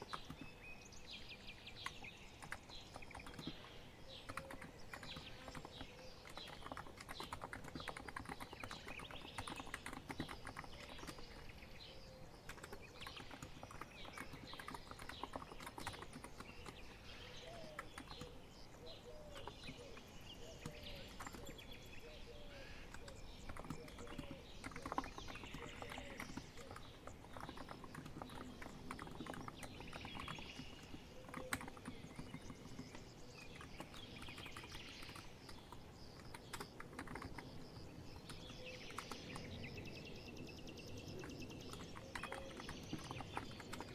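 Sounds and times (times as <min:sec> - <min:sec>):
typing on a keyboard: 0:00.0 - 0:00.6, 0:01.8 - 0:21.9, 0:22.9 - 0:43.9.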